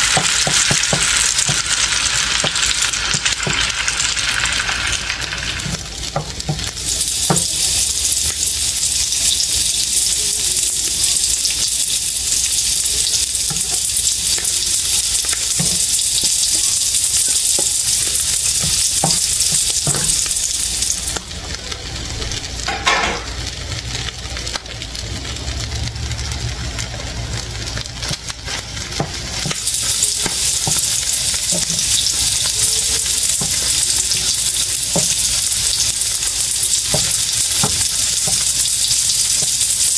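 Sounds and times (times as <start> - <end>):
rice sizzling in frying pan: 0.0 - 39.9.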